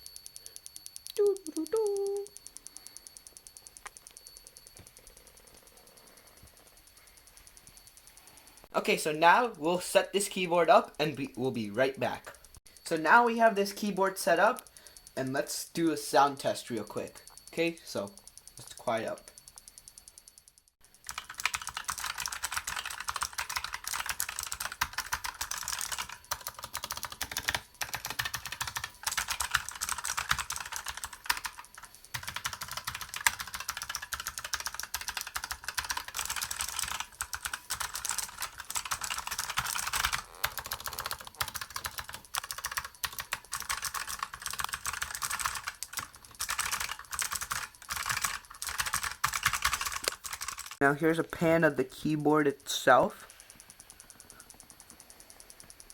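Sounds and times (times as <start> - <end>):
fast clicky keyboard typing: 0.0 - 55.9.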